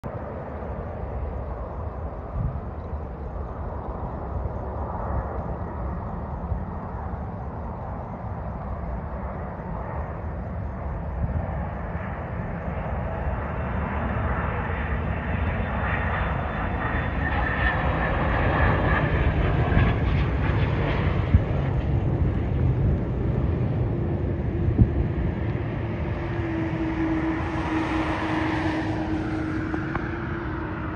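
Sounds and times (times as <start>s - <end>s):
jet engines rumbling: 0.0s - 30.9s.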